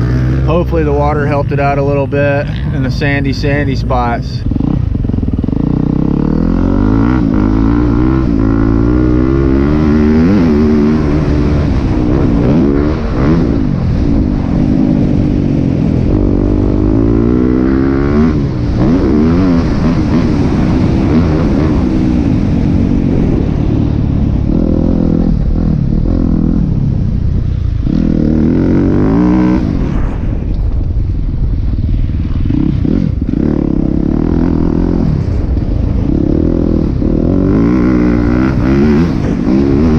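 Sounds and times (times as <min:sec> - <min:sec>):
motocross engine revving: 0:00.0 - 0:23.7, 0:27.8 - 0:29.9, 0:32.4 - 0:39.9.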